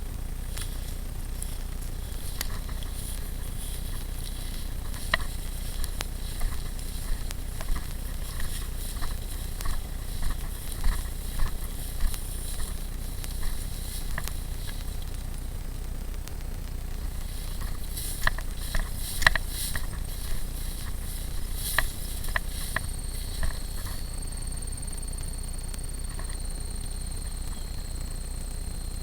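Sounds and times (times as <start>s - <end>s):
footsteps crunching on dry ground: 0.0s - 28.9s
steady low rumble: 0.0s - 29.0s.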